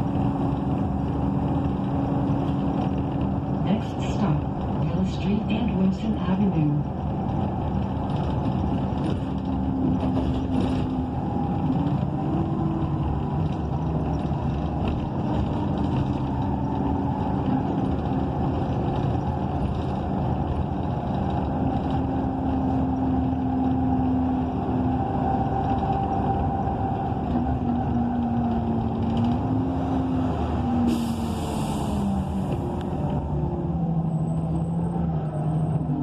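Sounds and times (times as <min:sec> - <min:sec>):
bus engine running: 0:00.0 - 0:36.0
road rumble: 0:00.0 - 0:36.0.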